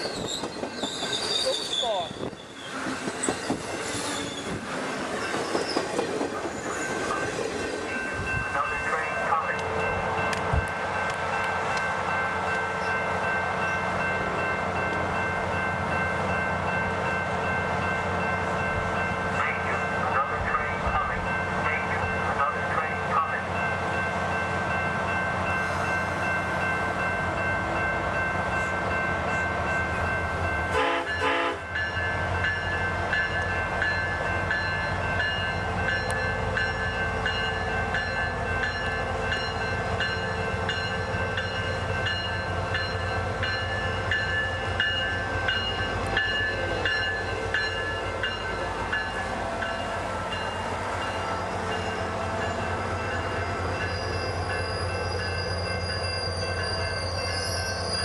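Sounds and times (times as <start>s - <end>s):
diesel locomotive running: 0.0s - 58.0s
wheels rumbling on rails: 0.0s - 58.0s.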